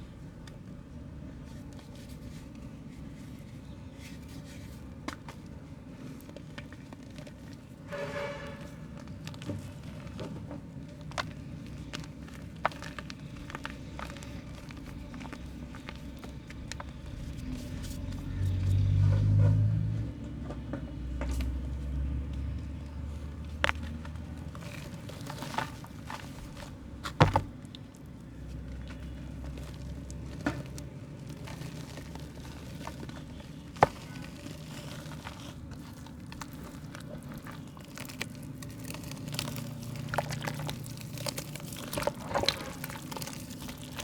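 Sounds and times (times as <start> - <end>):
mud crumbling by hand: 0.0 - 44.0.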